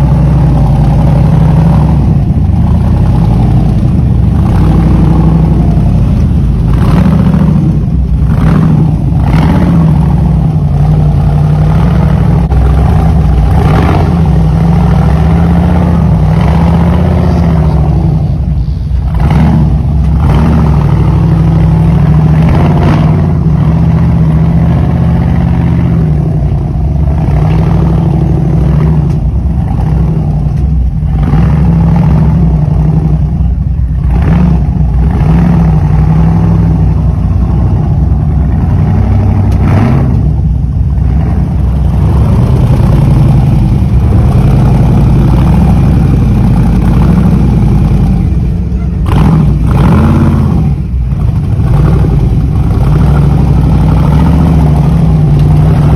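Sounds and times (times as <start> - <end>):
buggy engine revving under load: 0.0 - 55.9.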